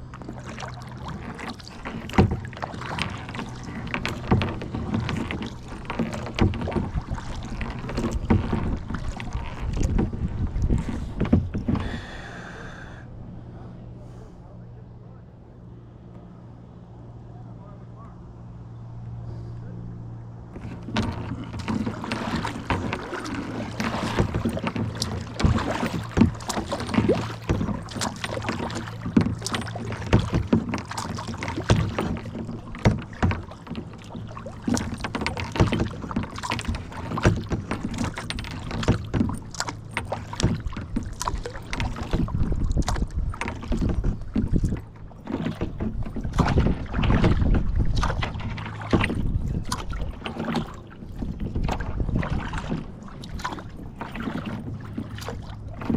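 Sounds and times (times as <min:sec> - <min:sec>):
paddle splashing water: 0:00.0 - 0:13.2, 0:20.4 - 0:55.9
water rumbling past boat: 0:00.0 - 0:55.9.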